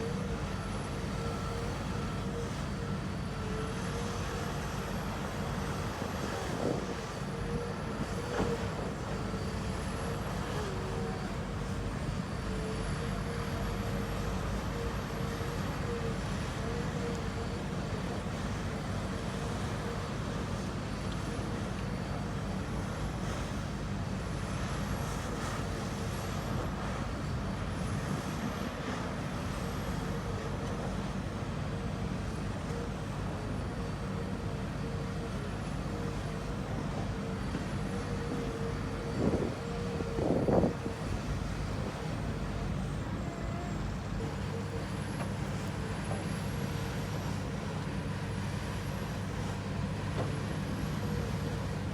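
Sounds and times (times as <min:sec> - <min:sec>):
electric motors humming and whining: 0:00.0 - 0:51.9.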